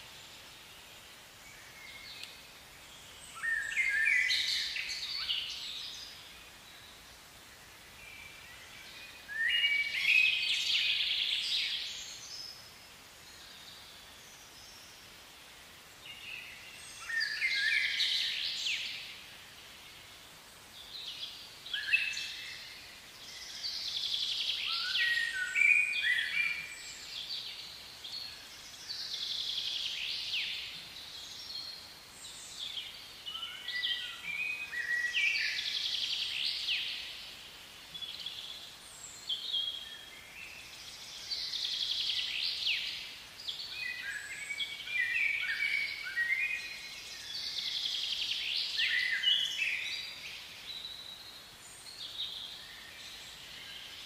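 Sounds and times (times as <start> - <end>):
faint steady hiss: 0.0 - 54.0
songbird singing: 0.0 - 54.0.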